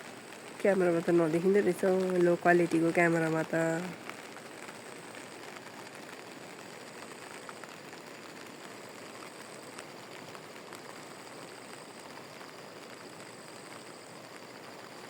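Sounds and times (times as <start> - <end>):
raindrops tapping on plastic sheet: 0.0 - 15.0
steady rain hiss: 0.0 - 15.0.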